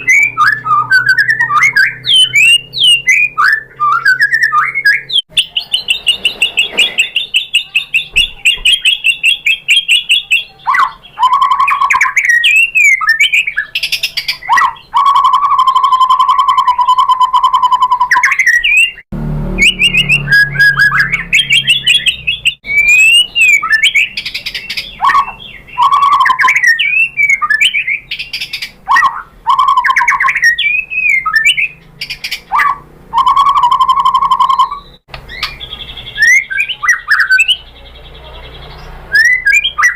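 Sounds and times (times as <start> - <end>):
songbird singing trills and whistles: 0.0 - 19.0, 19.6 - 39.9.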